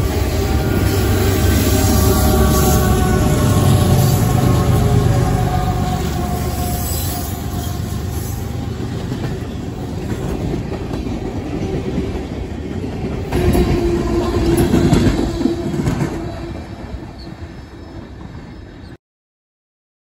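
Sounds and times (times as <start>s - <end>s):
freight train wheels clicking: 0.0s - 18.6s.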